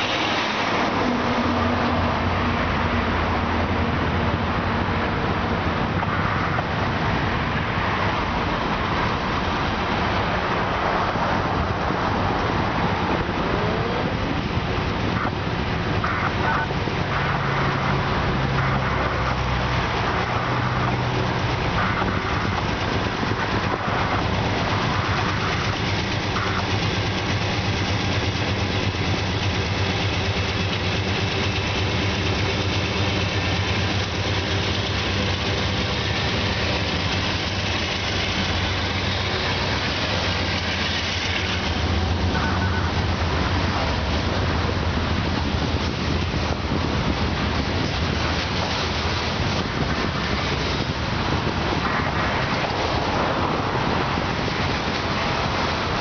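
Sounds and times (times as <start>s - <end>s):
diesel locomotive engine drone: 0.0s - 56.0s
train rumbling: 0.0s - 56.0s.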